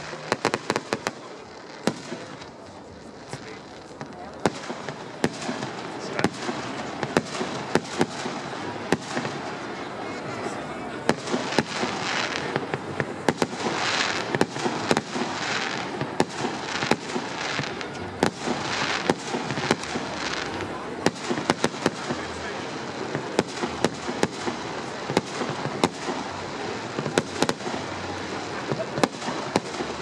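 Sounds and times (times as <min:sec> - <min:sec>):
firework bangs: 0:00.0 - 0:30.0
fireworks hissing: 0:00.0 - 0:30.0.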